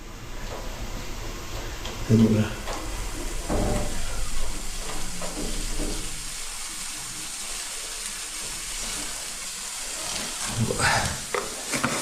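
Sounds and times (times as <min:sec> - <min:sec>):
water gushing into plastic bucket: 0:02.0 - 0:12.0.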